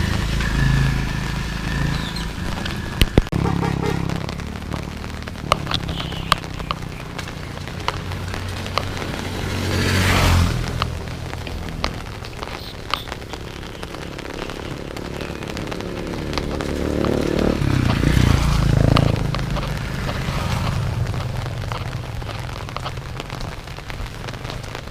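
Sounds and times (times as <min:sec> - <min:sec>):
rain falling: 0:00.0 - 0:24.9
vehicle passing on wet road: 0:00.0 - 0:24.9
drops tapping: 0:02.3 - 0:24.9.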